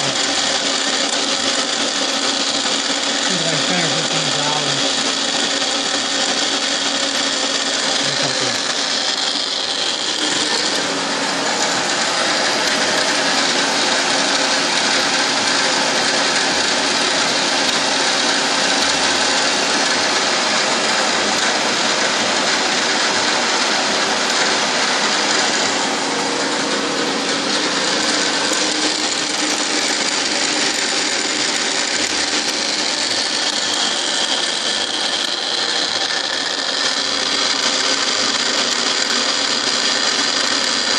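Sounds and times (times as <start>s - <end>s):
milling machine cutting metal: 0.0s - 40.9s.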